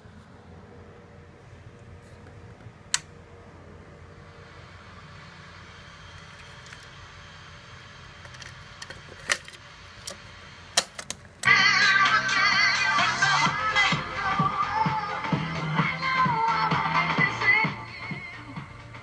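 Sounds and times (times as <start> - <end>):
faint hum and hiss: 0.0 - 19.0.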